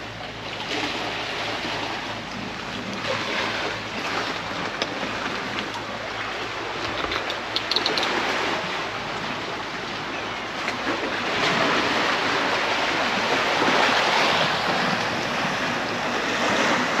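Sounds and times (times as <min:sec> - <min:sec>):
sea waves washing over pebbles: 0:00.0 - 0:10.0, 0:10.6 - 0:17.0.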